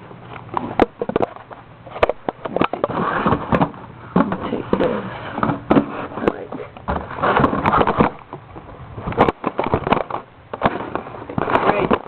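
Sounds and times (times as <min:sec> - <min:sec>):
handling knocks and rustles: 0:00.0 - 0:12.0.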